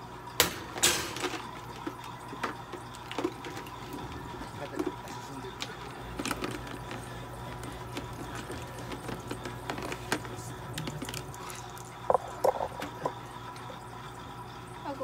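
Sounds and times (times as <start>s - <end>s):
steady low hum: 0.0s - 15.0s
clicks and rustles of tubing: 1.1s - 13.7s.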